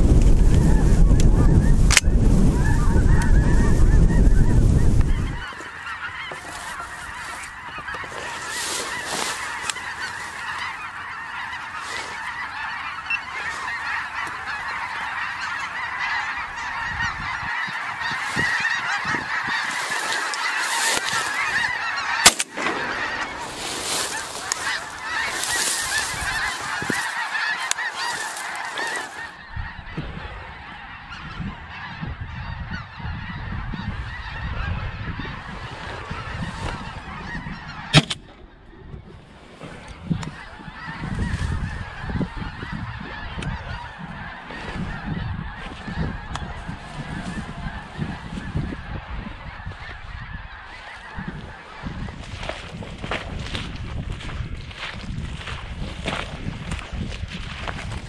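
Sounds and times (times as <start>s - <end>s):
geese honking: 0.0s - 58.0s
wind buffeting microphone: 0.0s - 58.0s.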